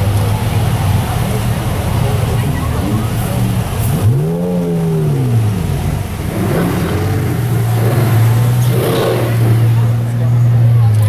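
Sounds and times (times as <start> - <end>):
sports car engine revving: 0.0 - 11.0.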